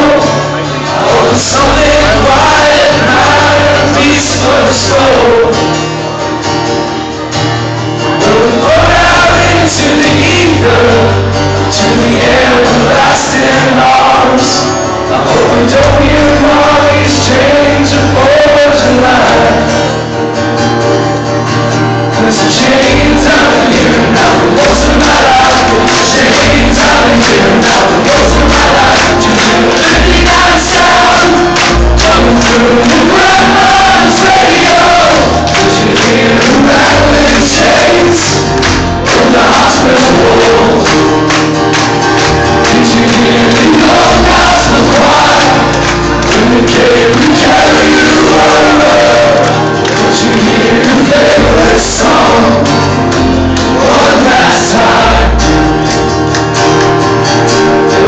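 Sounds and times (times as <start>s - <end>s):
men singing together: 0.0s - 5.9s, 8.1s - 20.0s, 22.1s - 56.1s
crowd singing along: 0.0s - 58.0s
double bass: 0.0s - 58.0s
strummed acoustic guitars: 0.0s - 58.0s.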